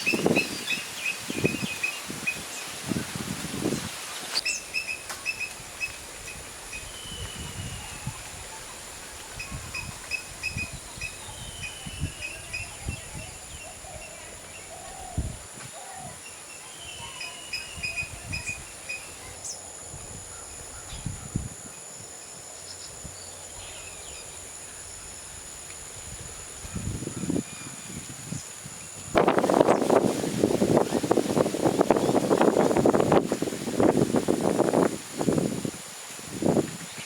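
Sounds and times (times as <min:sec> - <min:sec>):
high insect whine: 0:00.0 - 0:37.0.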